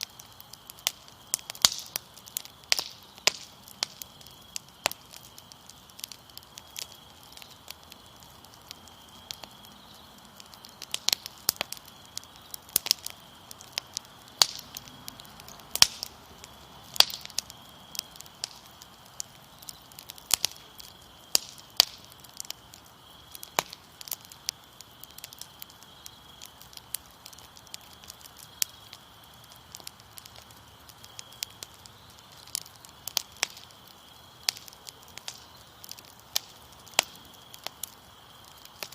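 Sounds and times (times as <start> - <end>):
crickets chirring: 0.0 - 38.9
fire crackling and popping: 0.0 - 38.9.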